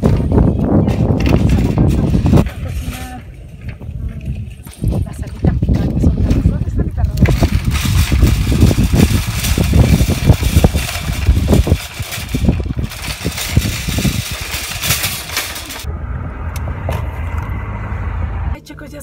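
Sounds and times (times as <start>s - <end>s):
shopping cart rattling on asphalt: 0.0s - 15.9s.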